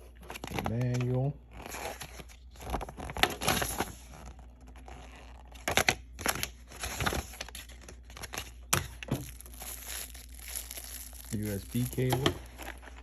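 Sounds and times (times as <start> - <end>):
plastic packaging crinkling: 0.3 - 13.0.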